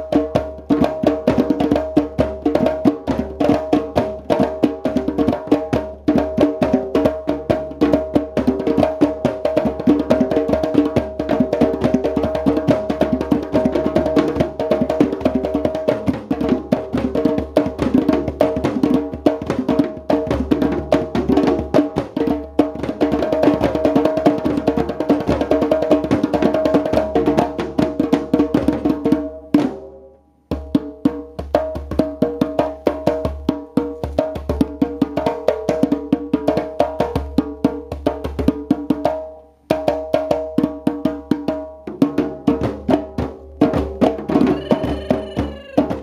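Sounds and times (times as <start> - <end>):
djembes slapped by hand: 0.0 - 29.8, 30.5 - 44.6.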